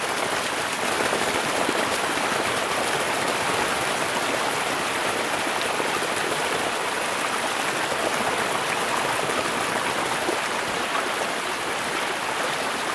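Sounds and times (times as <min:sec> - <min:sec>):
shallow water rushing and splashing: 0:00.0 - 0:12.9.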